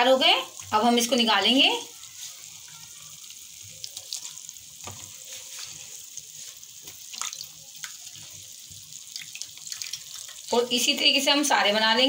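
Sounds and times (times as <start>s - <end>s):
dough deep-frying in hot oil: 0.0s - 12.0s.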